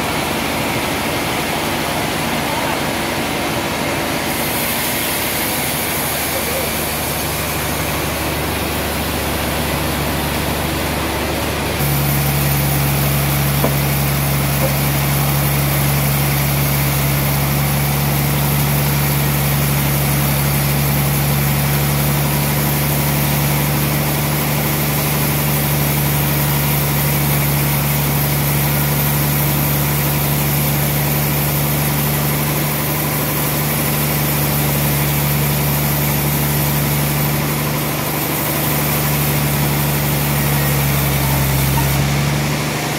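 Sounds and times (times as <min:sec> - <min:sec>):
band saw machine humming: 0:00.0 - 0:42.9.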